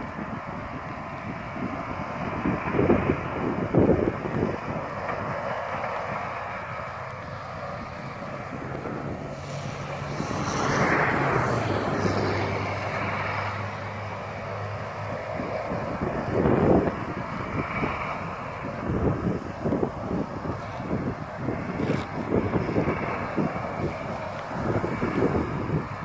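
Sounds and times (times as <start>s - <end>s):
tractor engine droning: 0.0s - 26.0s
wind buffeting microphone: 0.0s - 26.0s.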